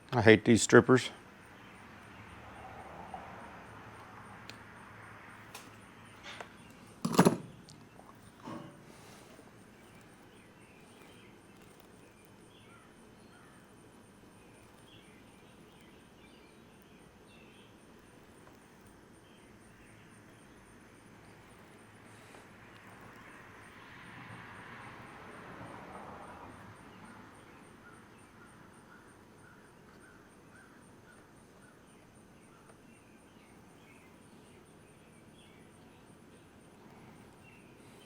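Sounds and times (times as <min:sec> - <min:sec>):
birds chirping: 0:00.0 - 0:02.9, 0:05.3 - 0:24.0, 0:27.0 - 0:38.0.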